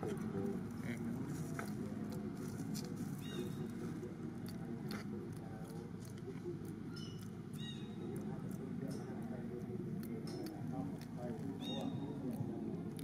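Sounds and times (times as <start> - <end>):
low outdoor murmur: 0.0 - 13.0.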